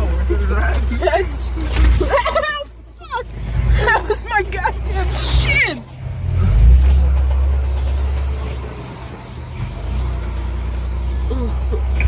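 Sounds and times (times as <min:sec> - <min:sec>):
off-road vehicle engine rumbling: 0:00.0 - 0:12.0.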